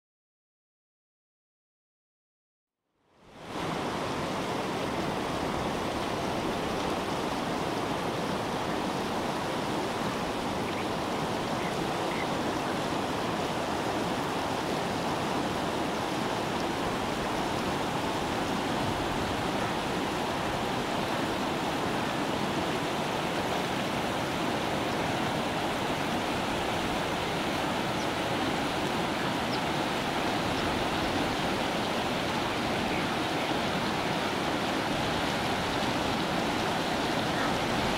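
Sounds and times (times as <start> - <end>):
stream rushing over rocks: 3.2 - 37.9.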